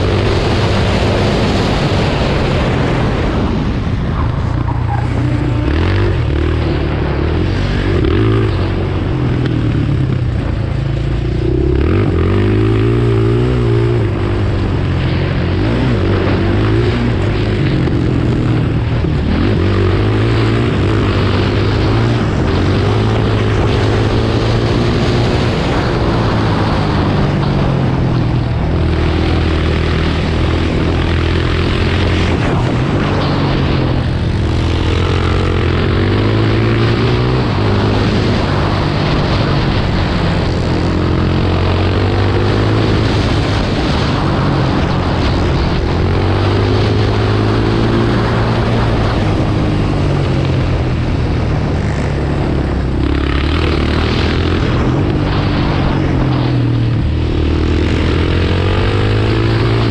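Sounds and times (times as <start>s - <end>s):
motorcycle engine revving: 0.0s - 59.9s
rushing wind noise: 0.0s - 59.9s.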